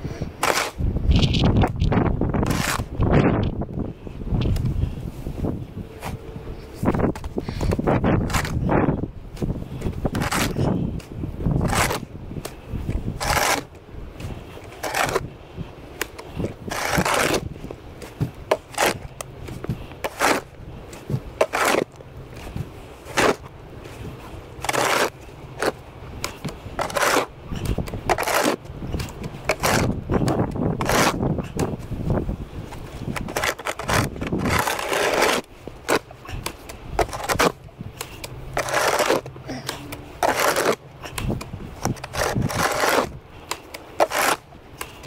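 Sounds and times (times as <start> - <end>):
snow shovel scraping pavement: 0.2 - 0.8, 2.4 - 3.1, 4.8 - 45.0.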